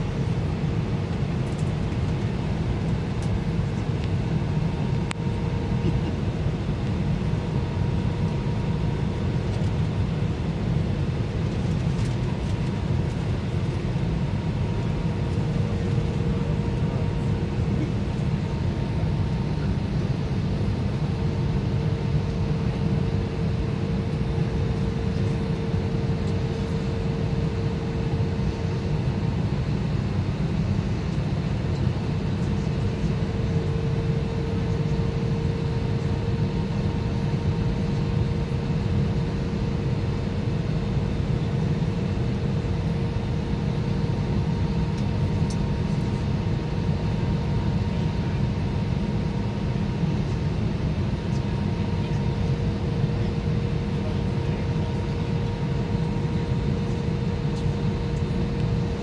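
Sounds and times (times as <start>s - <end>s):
airliner cabin engine drone: 0.0s - 59.0s
mid-pitched hum: 0.0s - 59.0s.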